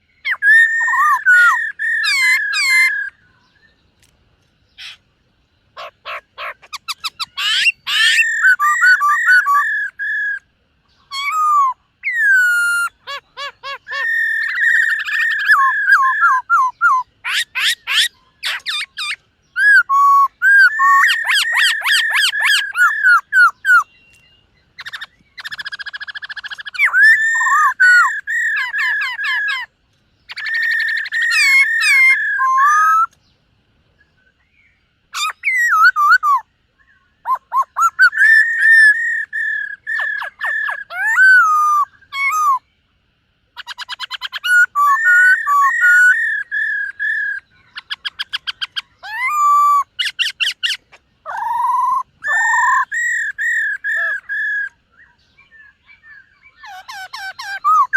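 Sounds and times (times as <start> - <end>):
laughingthrush whistles and trills: 0.0 - 3.2, 5.7 - 10.5, 11.1 - 23.9, 24.8 - 29.7, 30.3 - 33.2, 35.1 - 36.5, 37.2 - 42.6, 43.6 - 57.9.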